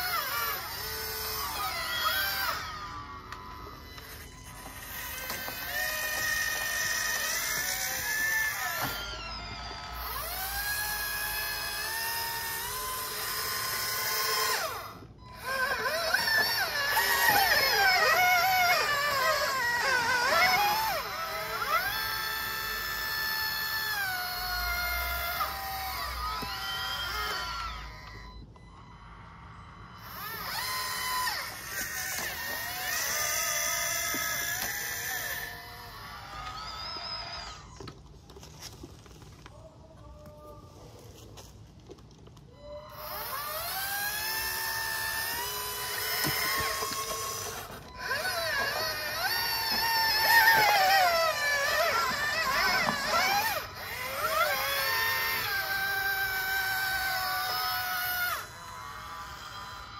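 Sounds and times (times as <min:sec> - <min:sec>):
model excavator motors whining: 0:00.0 - 0:59.9.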